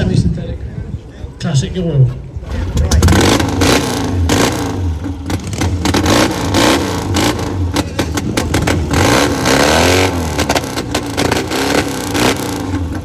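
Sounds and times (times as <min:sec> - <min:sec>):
motorcycle engine revving: 0:02.1 - 0:13.0.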